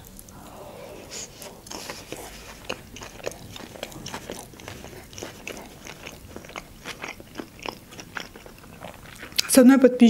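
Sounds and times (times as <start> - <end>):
chewing with wet clicks: 1.6 - 9.9.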